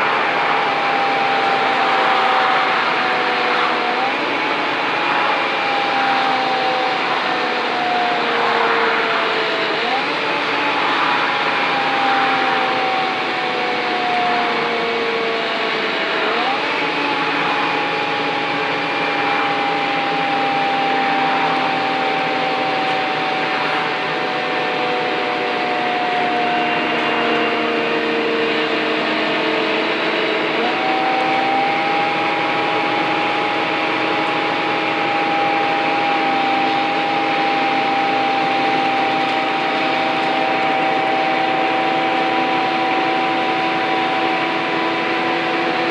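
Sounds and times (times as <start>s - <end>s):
bus engine whining uphill: 0.0s - 45.9s.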